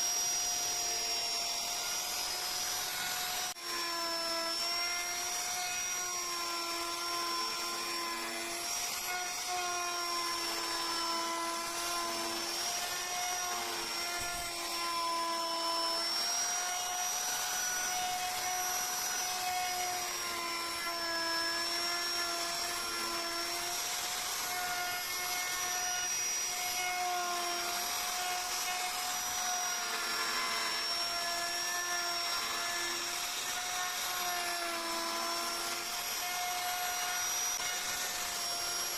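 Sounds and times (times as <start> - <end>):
carving tool grinding wood: 0.0 - 38.9.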